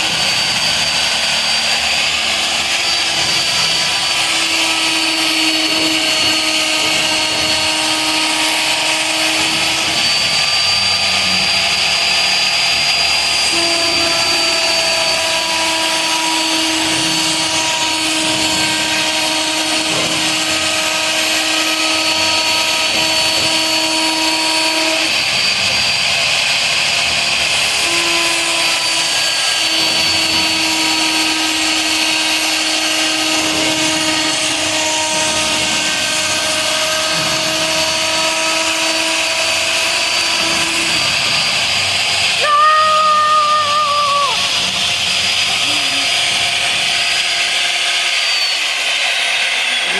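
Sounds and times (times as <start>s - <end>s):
cnc router machine whine: 0.0s - 49.9s.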